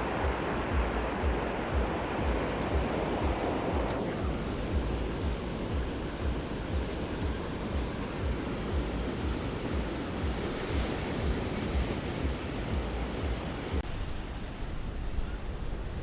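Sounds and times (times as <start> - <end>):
ocean surf on beach: 0.0 - 16.0
wind rumbling on microphone: 0.0 - 16.0.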